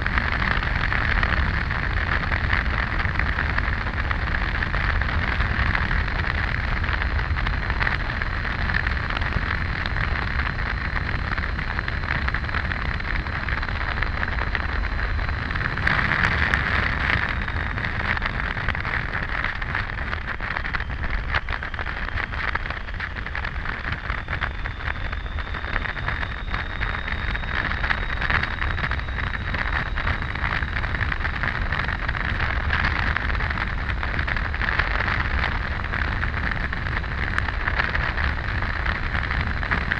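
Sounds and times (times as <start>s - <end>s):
faint high whine: 0.0s - 39.9s
motorcycle road noise rumble: 0.0s - 39.9s
wind rushing over microphone: 0.0s - 39.9s.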